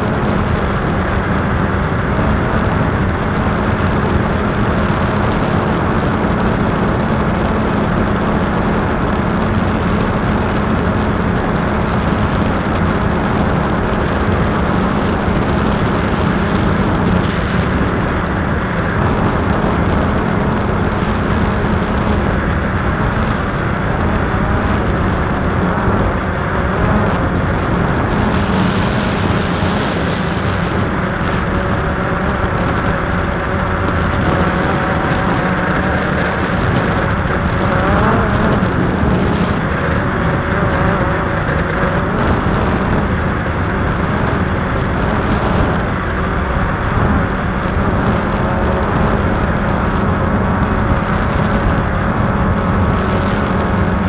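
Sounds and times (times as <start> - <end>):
drone motors humming: 0.0 - 54.0
wind rushing over microphone: 0.0 - 54.0.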